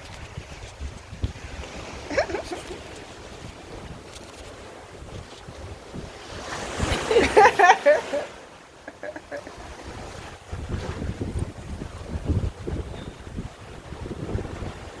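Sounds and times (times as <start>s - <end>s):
ocean surf on rocky shore: 0.0s - 15.0s
wind buffeting microphone: 0.0s - 15.0s.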